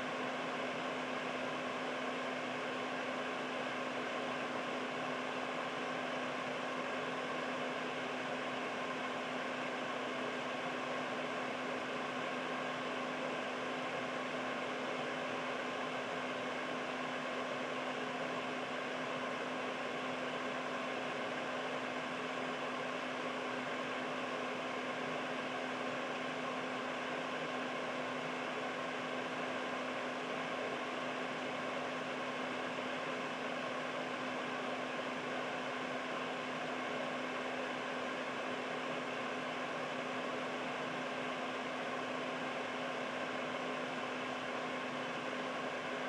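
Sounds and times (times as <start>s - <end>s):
air purifier fan running: 0.0s - 46.0s.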